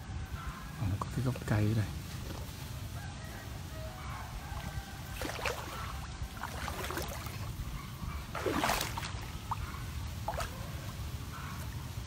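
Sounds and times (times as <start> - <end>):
wading through shallow water: 0.6 - 12.0.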